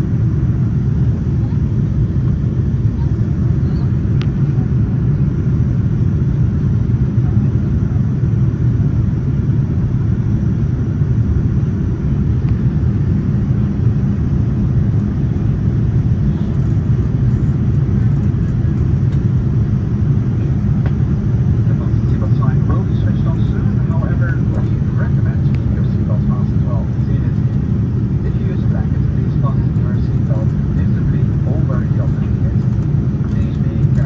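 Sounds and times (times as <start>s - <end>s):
airliner cabin rumble: 0.0s - 34.0s.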